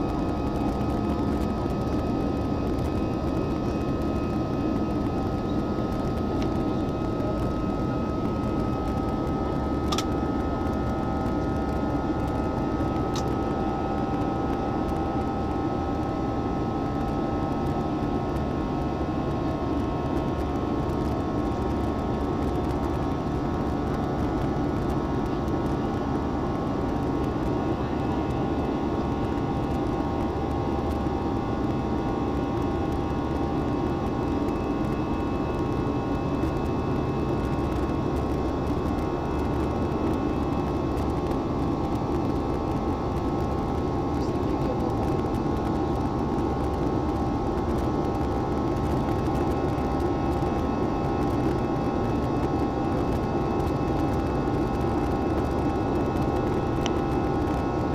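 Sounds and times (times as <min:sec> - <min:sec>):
faint steady whine: 0:00.0 - 0:57.9
jet engines droning: 0:00.0 - 0:57.9.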